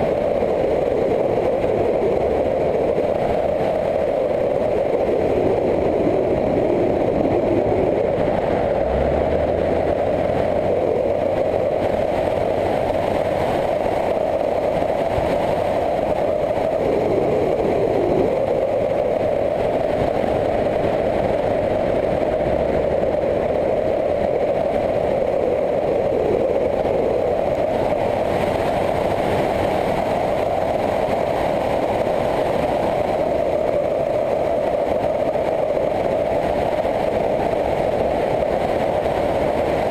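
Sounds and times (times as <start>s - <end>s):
motorcycle engine drone: 0.0s - 39.9s
wind rush: 0.0s - 39.9s.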